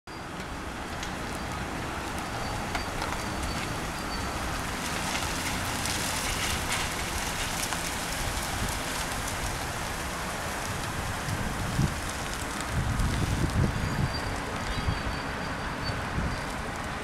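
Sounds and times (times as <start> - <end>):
faint crackles: 0.9 - 14.8
wind noise on microphone: 1.4 - 17.0.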